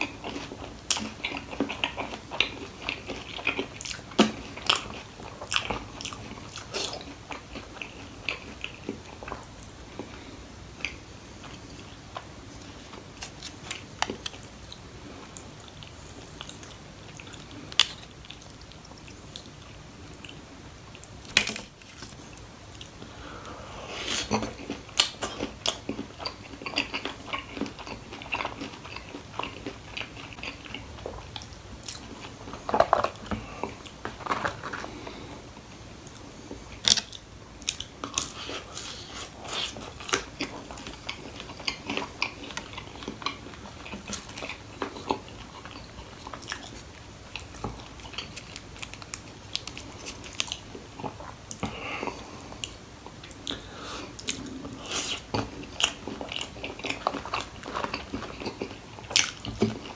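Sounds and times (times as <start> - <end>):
chewing crispy fried food: 0.0 - 59.9.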